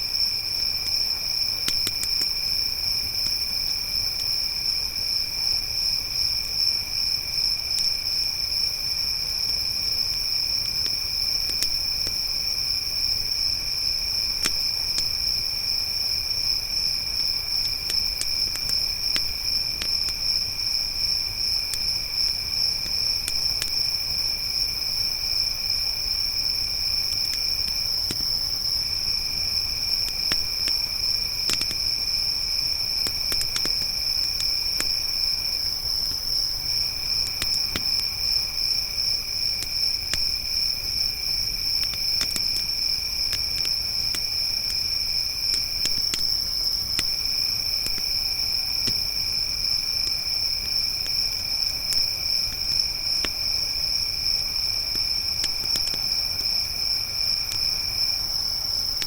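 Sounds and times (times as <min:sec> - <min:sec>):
crickets chirring: 0:00.0 - 0:59.0
campfire crackling: 0:00.1 - 0:04.8, 0:09.5 - 0:59.0.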